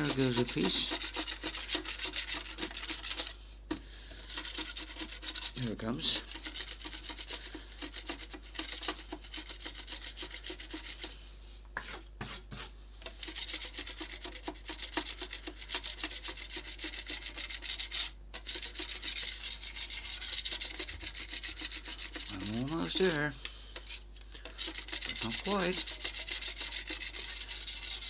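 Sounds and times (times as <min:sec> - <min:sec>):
knife scraping paint: 0:00.0 - 0:28.0.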